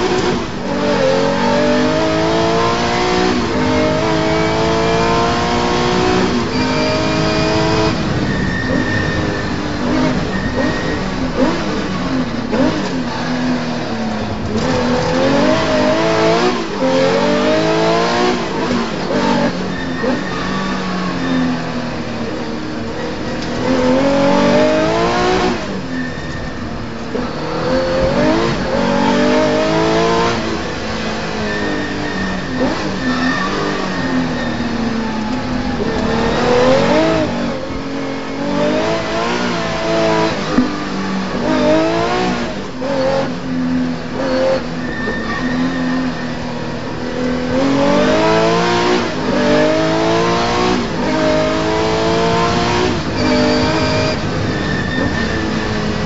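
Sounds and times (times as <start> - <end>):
rally car engine revving: 0.0 - 56.0
road and tyre noise: 0.0 - 56.0.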